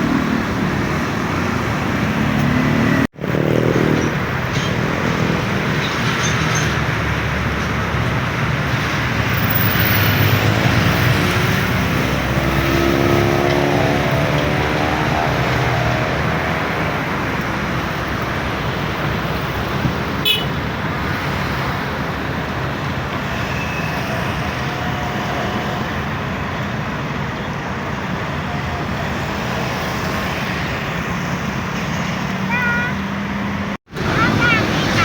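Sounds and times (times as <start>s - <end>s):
road traffic noise: 0.0s - 35.0s.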